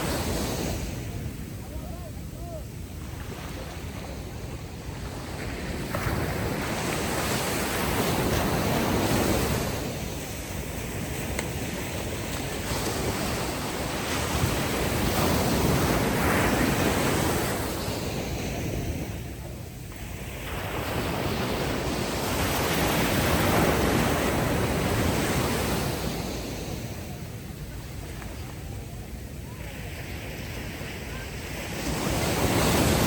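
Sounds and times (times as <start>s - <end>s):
ocean waves on sandy beach: 0.0s - 33.0s.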